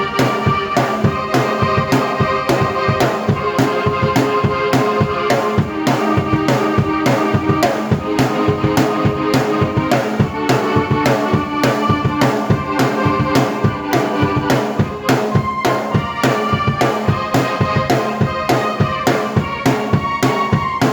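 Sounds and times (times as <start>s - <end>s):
steady drum beat: 0.0s - 20.9s
string-like keyboard chords: 0.0s - 20.9s.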